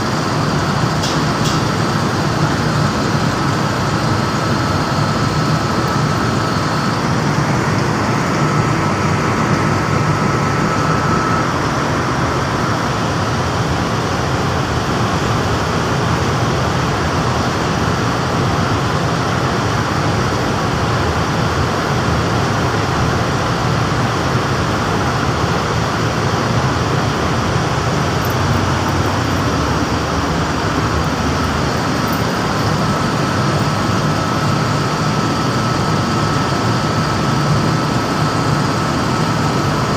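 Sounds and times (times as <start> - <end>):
air-conditioning machinery running: 0.0 - 39.9
faint constant whine: 0.0 - 39.9.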